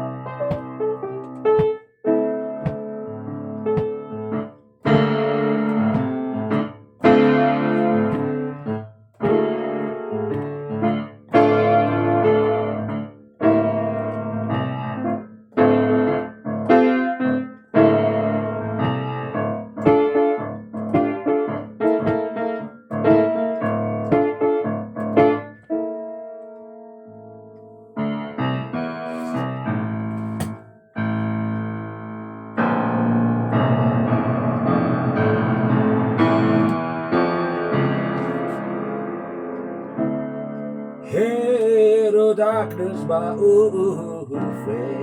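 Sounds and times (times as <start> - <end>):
keyboard piano chords: 0.0 - 45.0.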